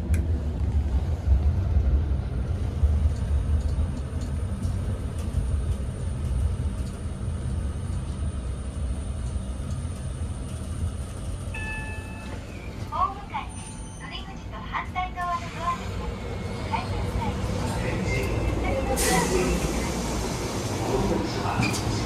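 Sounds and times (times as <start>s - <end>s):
elevator car rumbling: 0.0s - 22.0s.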